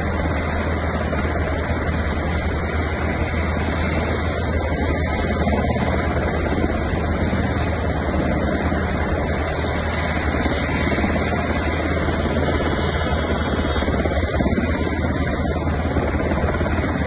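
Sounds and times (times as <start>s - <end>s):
helicopter engines and rotor: 0.0s - 17.0s.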